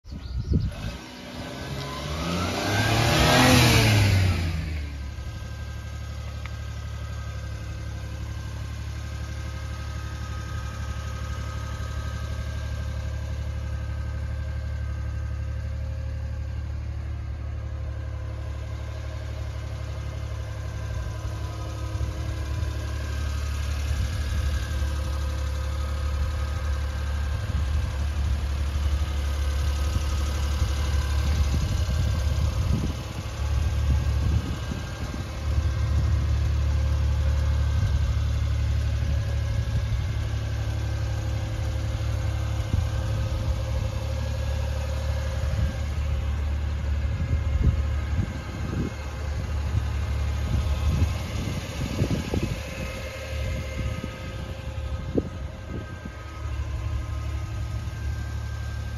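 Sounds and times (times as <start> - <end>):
small engine idling: 0.1 - 58.9.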